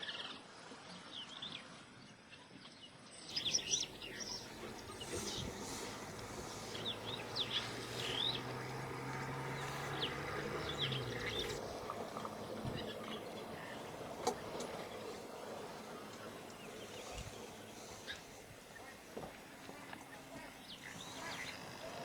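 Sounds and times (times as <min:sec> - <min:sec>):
birds chirping: 0:03.3 - 0:22.0
steady low hum: 0:03.4 - 0:22.0.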